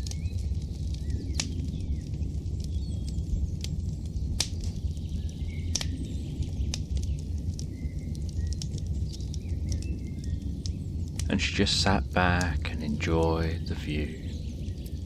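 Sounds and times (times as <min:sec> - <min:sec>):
birds chirping faintly: 0:00.0 - 0:15.0
campfire crackling: 0:00.0 - 0:15.0
low steady rumble: 0:00.0 - 0:15.0
sharp fire pops: 0:00.0 - 0:15.0.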